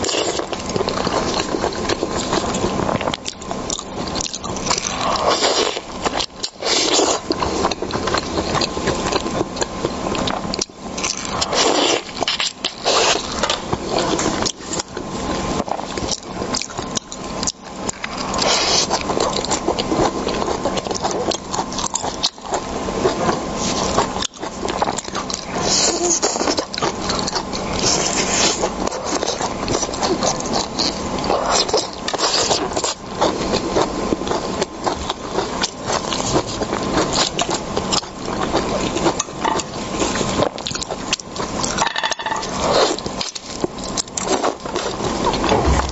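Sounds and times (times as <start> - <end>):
person chewing seafood: 0.0 - 45.9.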